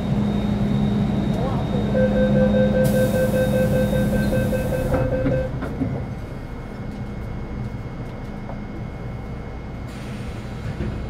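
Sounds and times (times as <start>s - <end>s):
train running rumble: 0.0s - 11.0s
train steady tones: 0.0s - 11.0s.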